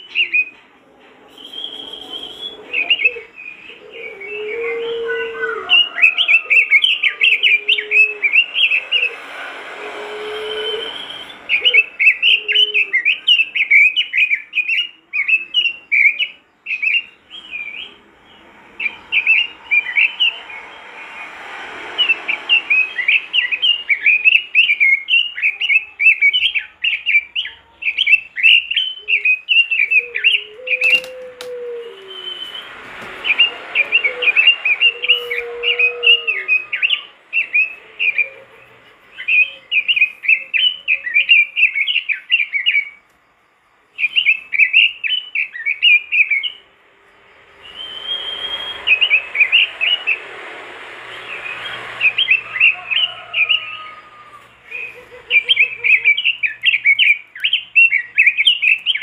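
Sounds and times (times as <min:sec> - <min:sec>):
bird singing rapid chirps: 0:01.3 - 0:09.2, 0:10.3 - 0:31.1, 0:32.0 - 0:43.0, 0:43.8 - 0:54.0, 0:54.6 - 0:59.0.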